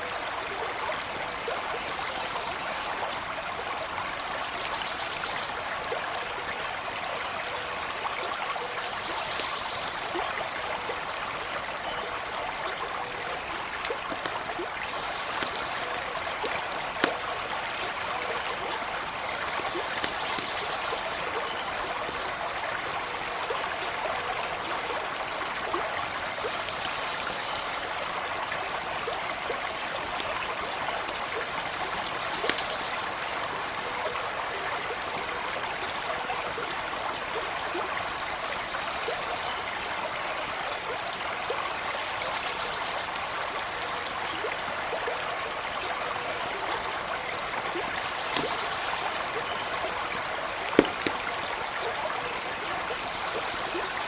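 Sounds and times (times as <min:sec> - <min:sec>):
stream running over stones: 0:00.0 - 0:54.0
campfire crackling and popping: 0:00.1 - 0:26.9, 0:27.7 - 0:54.0.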